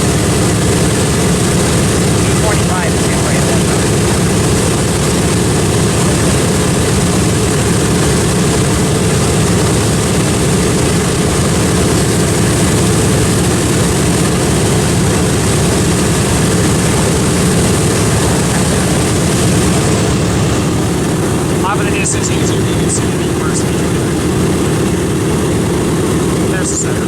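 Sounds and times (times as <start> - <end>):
radial piston engines running: 0.0 - 27.0.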